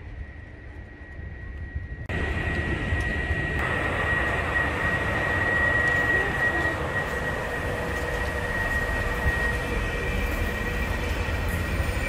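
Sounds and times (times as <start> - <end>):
electric train whine and rumble: 0.0 - 12.0.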